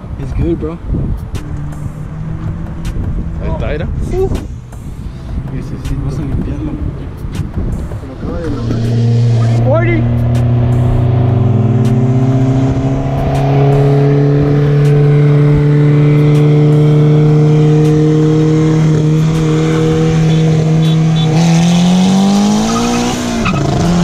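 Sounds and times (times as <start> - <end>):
car engine accelerating hard: 1.3 - 24.0.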